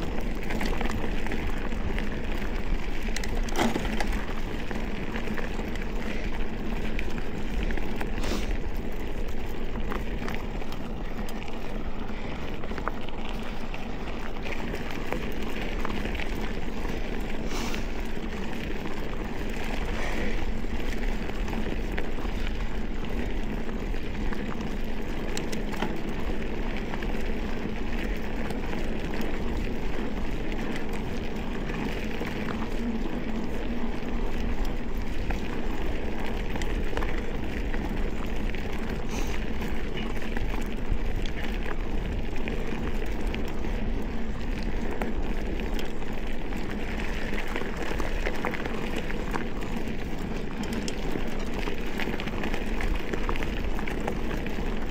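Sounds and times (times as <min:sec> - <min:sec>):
bike clicks and rattles: 0:00.0 - 0:54.9
bike tyres crunching on gravel: 0:00.0 - 0:54.9.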